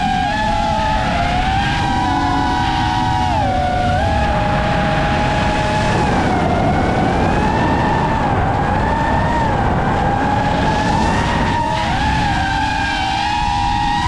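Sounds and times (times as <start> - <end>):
drone motors whining: 0.0 - 14.0
wind noise: 0.0 - 14.0.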